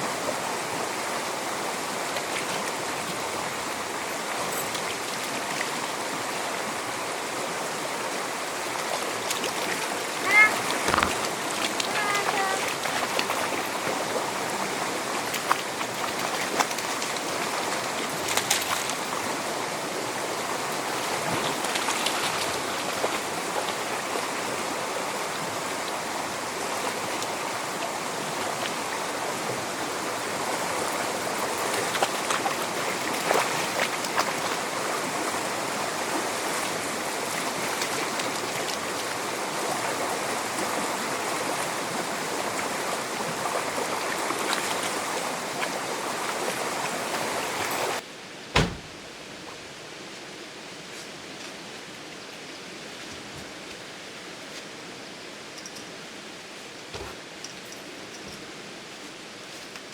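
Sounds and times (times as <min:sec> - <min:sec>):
stream water rushing: 0:00.0 - 0:51.8.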